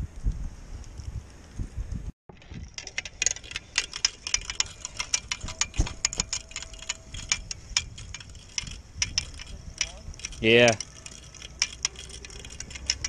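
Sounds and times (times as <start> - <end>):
fishing reel ticking: 2.3 - 13.0.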